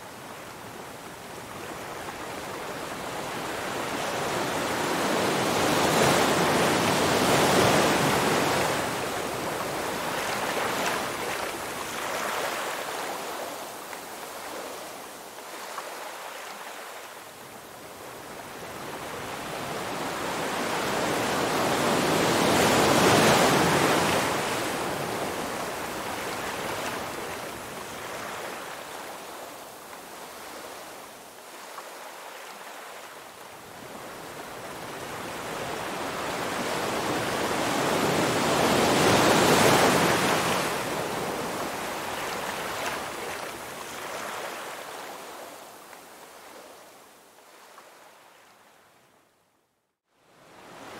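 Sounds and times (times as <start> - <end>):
ocean waves breaking on beach: 0.0 - 48.8, 50.2 - 50.9.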